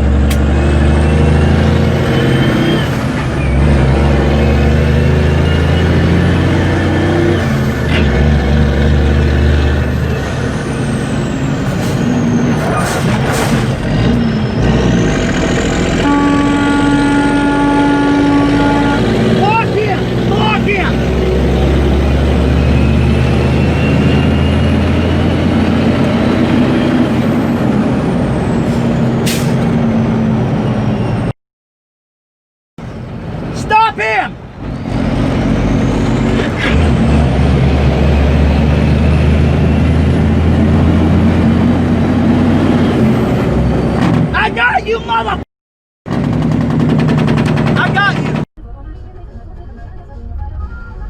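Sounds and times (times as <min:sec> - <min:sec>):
vehicle engine and road noise: 0:00.0 - 0:31.3, 0:32.8 - 0:45.4, 0:46.1 - 0:51.0.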